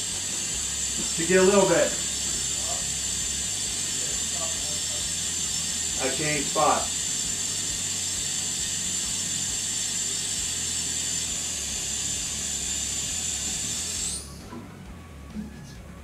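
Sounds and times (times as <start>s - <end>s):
water hissing through valve: 0.0s - 14.4s.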